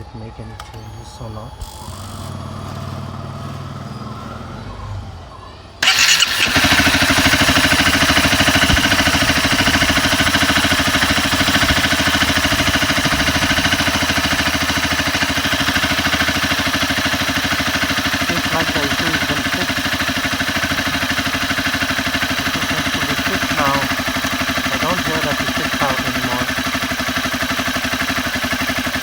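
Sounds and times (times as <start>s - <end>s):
motorcycle engine starting and idling: 0.6s - 29.0s.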